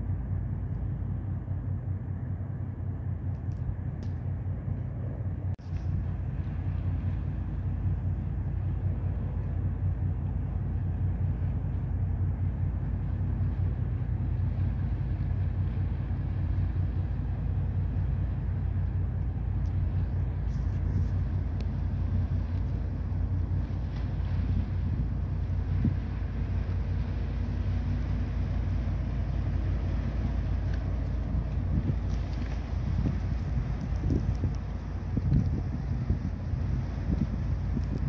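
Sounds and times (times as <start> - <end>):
ship engines rumbling: 0.0 - 38.0.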